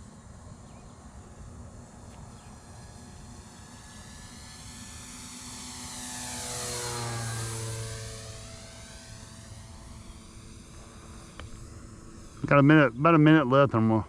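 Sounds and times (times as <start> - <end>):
model airplane motor whine: 0.0 - 13.3.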